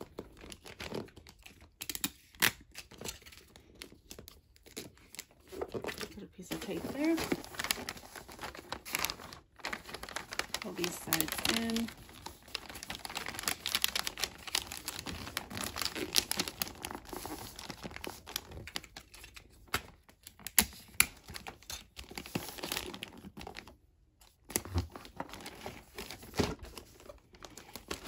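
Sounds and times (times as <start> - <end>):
wrapping paper crinkling: 0.0 - 23.8, 24.4 - 28.0.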